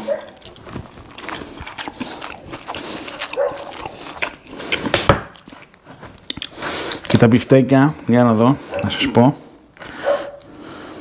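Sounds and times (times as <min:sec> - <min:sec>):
chewing and lip-smacking: 0:00.0 - 0:07.3, 0:08.7 - 0:11.0.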